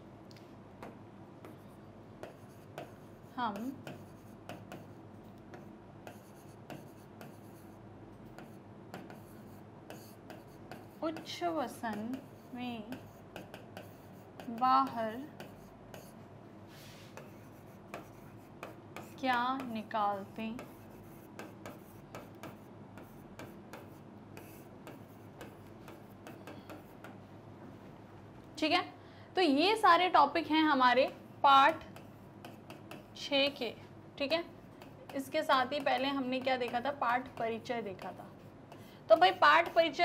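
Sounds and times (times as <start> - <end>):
writing strokes on a board: 0.8 - 27.2, 31.1 - 33.4, 34.2 - 40.0.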